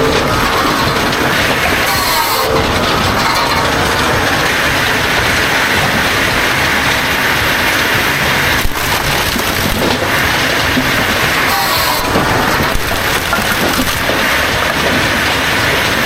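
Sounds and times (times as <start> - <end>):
heavy machinery running: 0.0 - 16.0.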